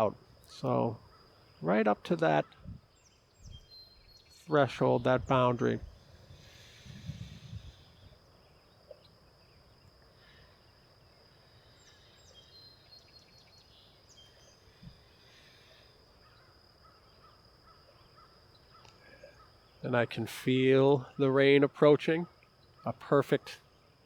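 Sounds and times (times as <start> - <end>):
high insect drone: 0.0 - 24.0
faint bird chirps: 0.4 - 19.9, 22.2 - 24.0.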